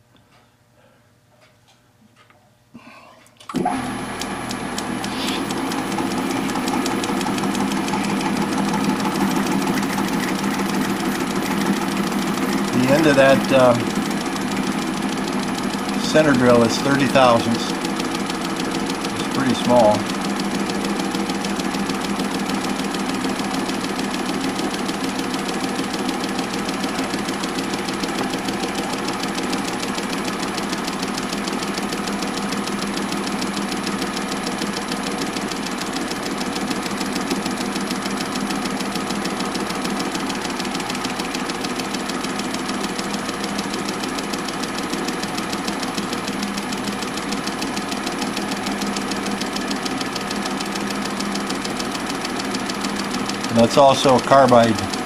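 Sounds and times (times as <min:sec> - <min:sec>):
metal lathe running: 0:03.6 - 0:55.0.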